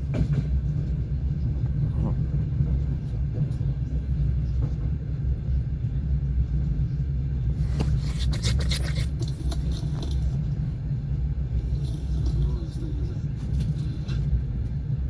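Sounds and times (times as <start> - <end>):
train wheels rumbling on rails: 0.0 - 8.0, 9.0 - 15.0.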